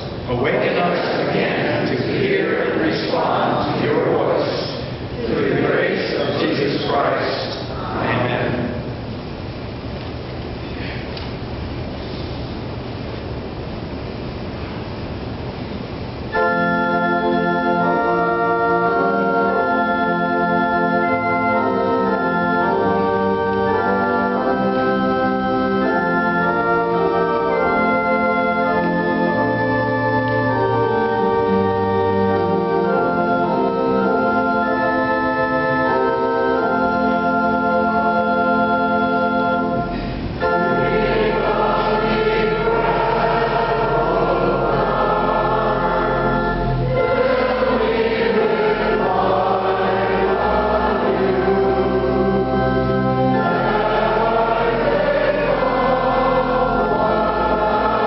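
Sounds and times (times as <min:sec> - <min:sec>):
organ playing sustained chords: 0:00.0 - 0:58.0
choir singing: 0:00.4 - 0:07.4, 0:16.4 - 0:58.0.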